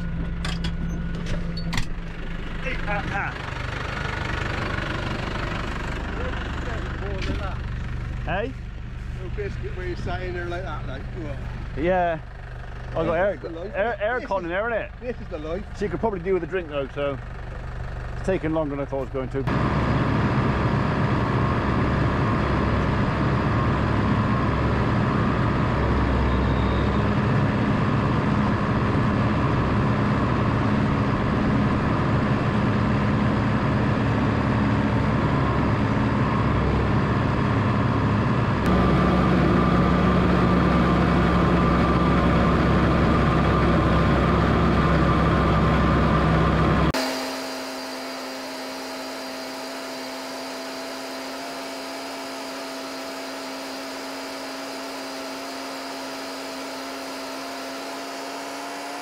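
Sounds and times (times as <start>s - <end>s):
tractor engine running under load: 0.0s - 57.8s.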